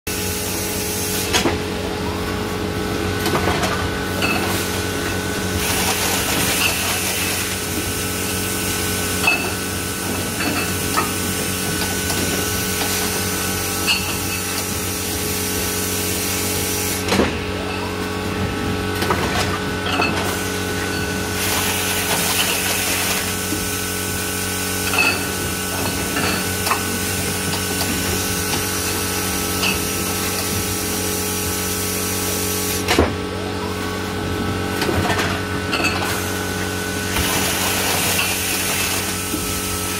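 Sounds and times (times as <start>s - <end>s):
machine hum with steady tones: 0.1s - 39.9s.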